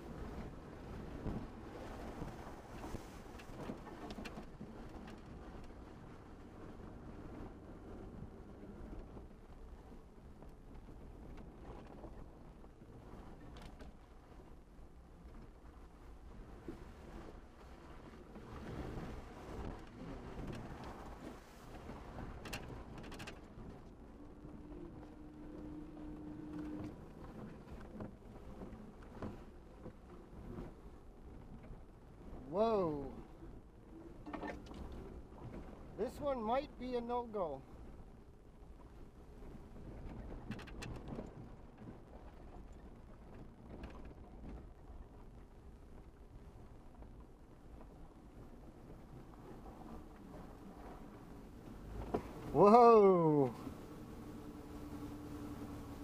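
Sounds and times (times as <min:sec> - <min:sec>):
vehicle engine and tyres rumbling: 0:00.0 - 0:32.6, 0:37.7 - 0:56.0.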